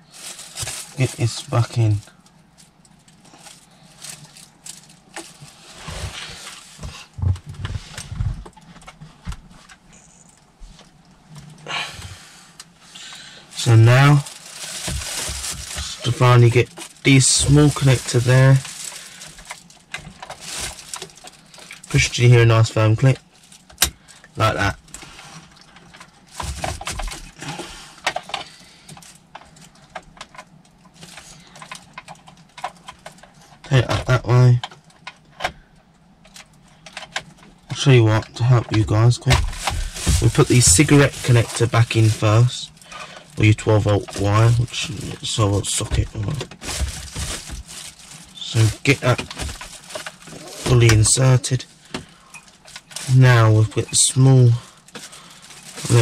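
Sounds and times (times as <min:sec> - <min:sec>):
plastic bags rustling: 0:00.0 - 0:35.2, 0:36.2 - 0:56.0.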